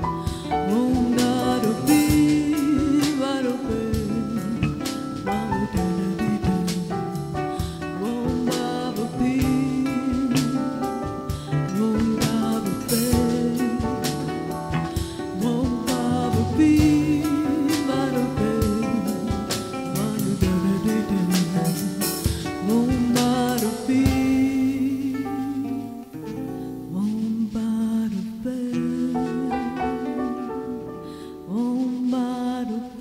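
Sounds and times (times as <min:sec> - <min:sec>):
bass guitar: 0:00.0 - 0:31.4
acoustic guitar: 0:00.0 - 0:33.0
drum kit: 0:00.0 - 0:33.0
person singing: 0:00.0 - 0:33.0.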